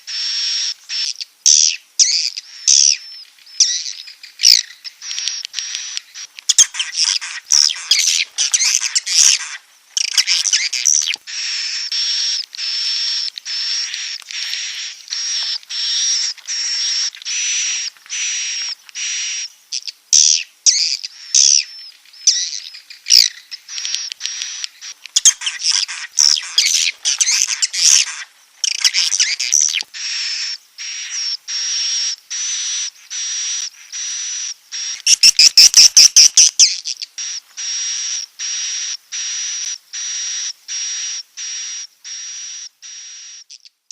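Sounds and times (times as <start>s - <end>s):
swiftlet twittering chirps: 0.0s - 43.8s.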